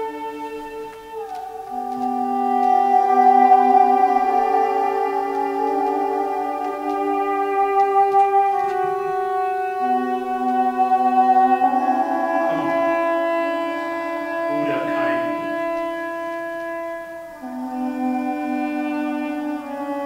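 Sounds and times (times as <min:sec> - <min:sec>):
cello slow sustained notes: 0:00.0 - 0:20.0.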